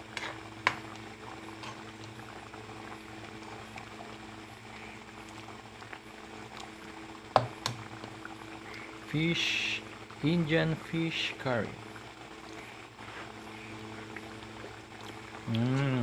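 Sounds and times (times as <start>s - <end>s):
curry bubbling in a pot: 0.0s - 10.2s, 11.2s - 15.6s.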